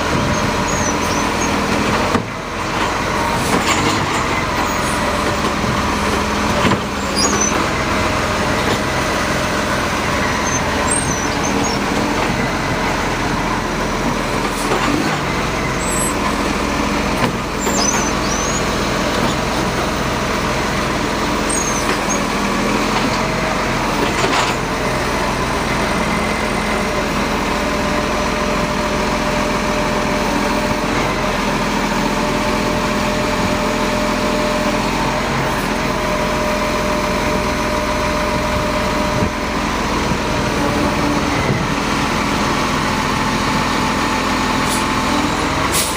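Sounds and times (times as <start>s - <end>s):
garbage truck running: 0.0s - 45.9s.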